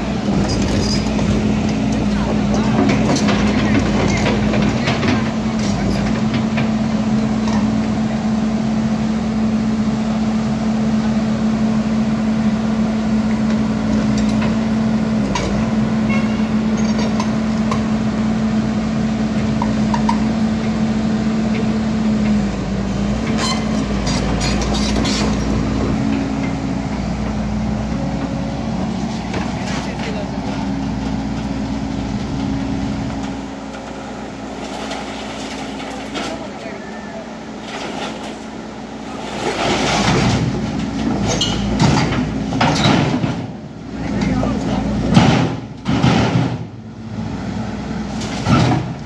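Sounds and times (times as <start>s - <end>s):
excavator engine and hydraulic drone: 0.0s - 49.0s.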